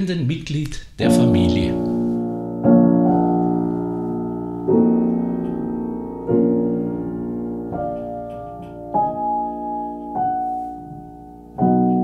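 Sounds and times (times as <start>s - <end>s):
piano playing slow chords: 1.0s - 12.0s.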